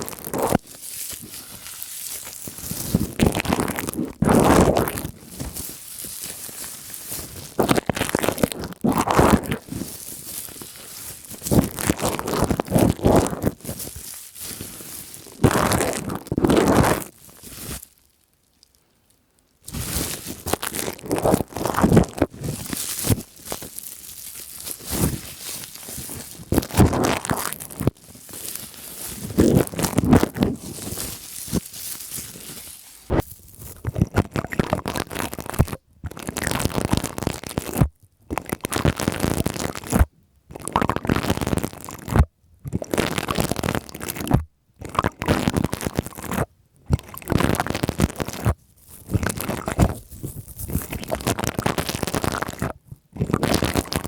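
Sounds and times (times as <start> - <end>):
plastic crinkling on microphone: 0.0 - 54.0.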